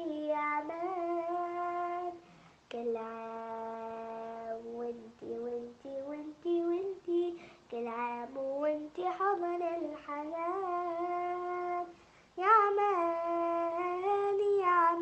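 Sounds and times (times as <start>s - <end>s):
girl singing solo: 0.0s - 15.0s.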